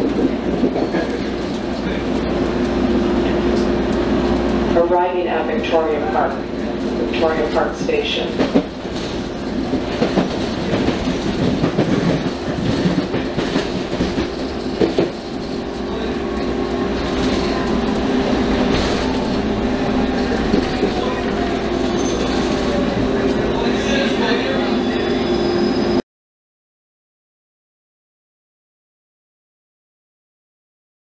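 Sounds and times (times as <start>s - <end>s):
subway wheels clattering over rail joints: 0.0s - 26.0s.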